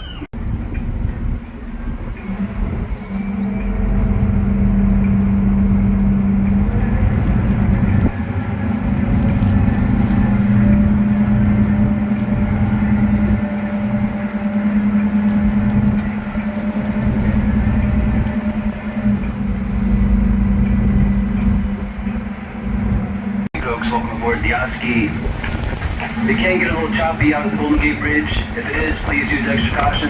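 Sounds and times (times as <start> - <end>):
boat engine droning: 0.0 - 30.0
low uneven rumble: 0.0 - 30.0.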